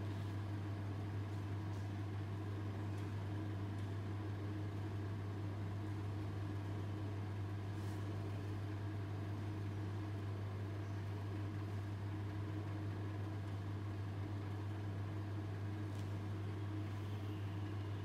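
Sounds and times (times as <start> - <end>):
low hum with light hiss: 0.0 - 18.0.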